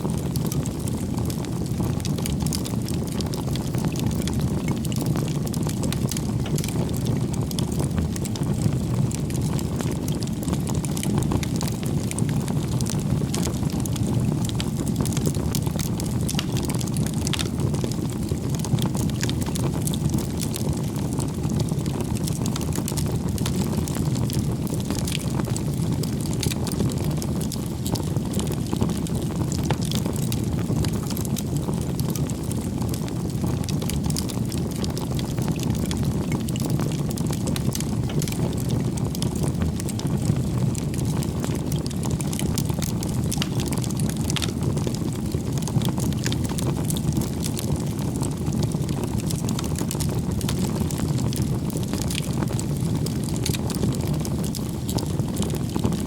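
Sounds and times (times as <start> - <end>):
bonfire flames rushing: 0.0 - 56.0
burning firewood crackling: 0.0 - 56.0.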